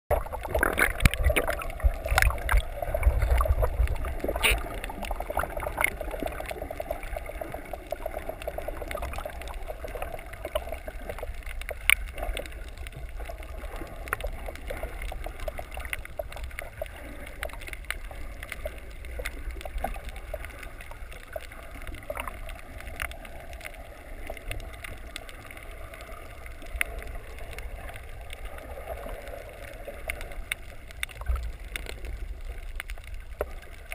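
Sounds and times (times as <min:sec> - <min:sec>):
muffled underwater rumble: 0:00.1 - 0:33.9.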